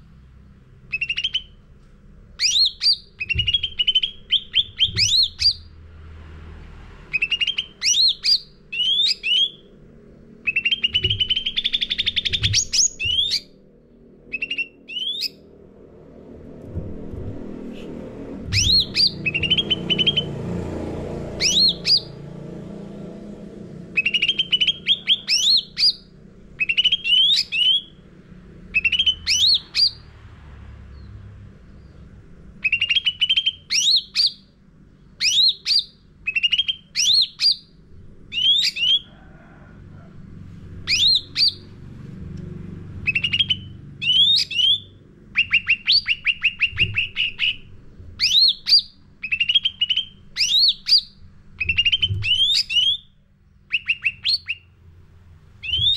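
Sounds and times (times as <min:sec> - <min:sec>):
faint low hum: 0:00.0 - 0:55.9
songbird singing: 0:00.8 - 0:01.8, 0:02.4 - 0:05.8, 0:07.0 - 0:15.5, 0:17.7 - 0:22.4, 0:23.4 - 0:28.0, 0:28.6 - 0:30.1, 0:30.8 - 0:39.2, 0:40.8 - 0:41.8, 0:42.4 - 0:54.8, 0:55.6 - 0:55.9.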